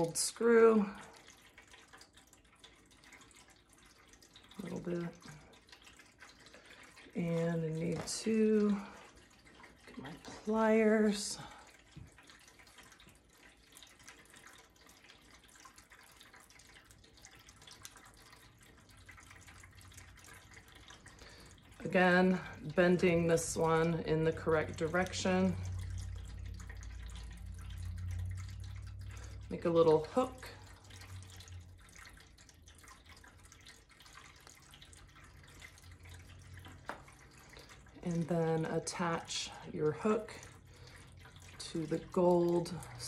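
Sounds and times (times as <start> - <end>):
faint trickle of water: 0.0 - 43.0
low steady hum: 0.0 - 43.0.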